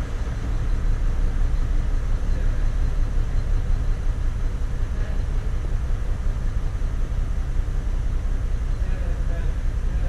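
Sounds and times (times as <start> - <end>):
engine running low rumble: 0.0 - 10.0.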